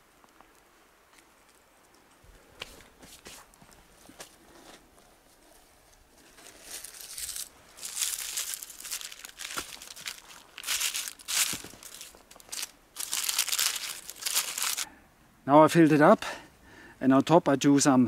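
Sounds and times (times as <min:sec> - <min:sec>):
twigs and bark rustling and crackling: 0:00.0 - 0:14.9.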